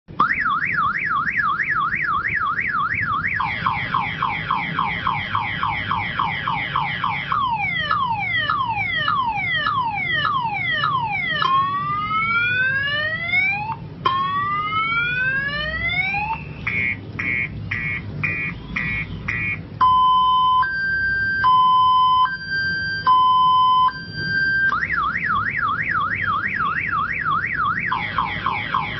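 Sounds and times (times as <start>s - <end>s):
electronic siren cycling tones: 0.2s - 28.9s.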